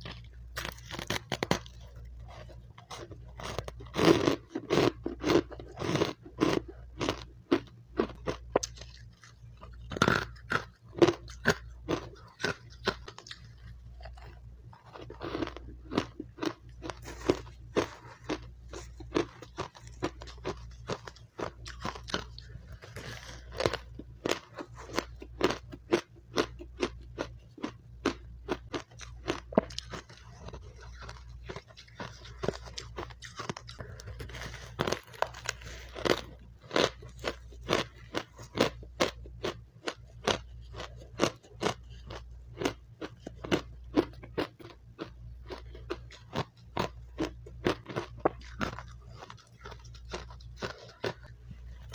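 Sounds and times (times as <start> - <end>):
person crunching ice: 0.0 - 51.9.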